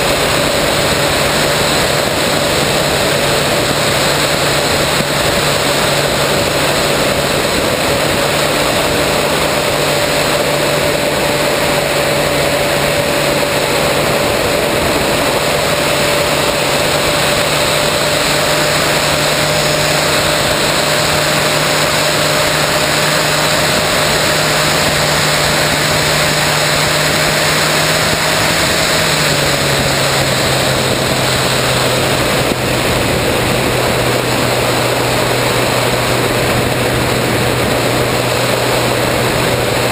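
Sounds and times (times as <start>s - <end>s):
electric motor whine: 0.0s - 39.9s
wind rush and prop wash: 0.0s - 39.9s.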